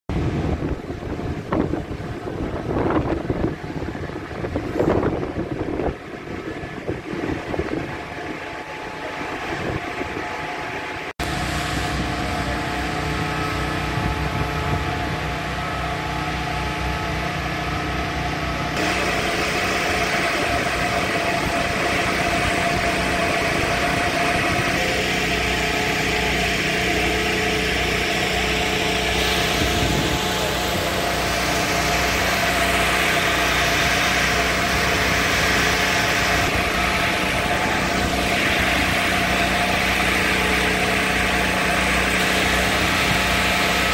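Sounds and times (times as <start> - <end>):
wind on microphone: 0.1 - 43.9
fire engine idling: 0.2 - 43.9.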